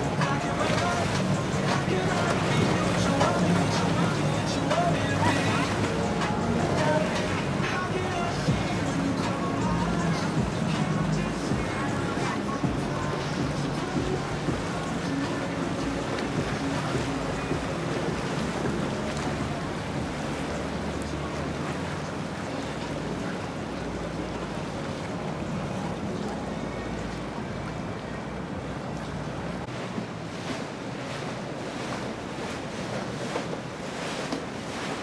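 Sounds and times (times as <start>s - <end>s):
outboard motors humming: 0.0s - 35.0s
water splashing against hulls: 0.0s - 35.0s.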